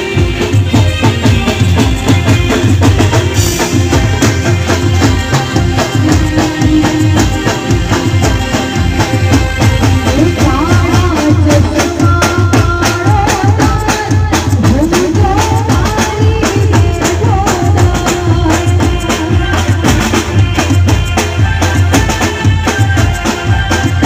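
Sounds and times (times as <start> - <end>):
drums beating dance rhythm: 0.0 - 24.0
keyboard: 0.0 - 24.0
woman singing into microphone: 0.0 - 24.0.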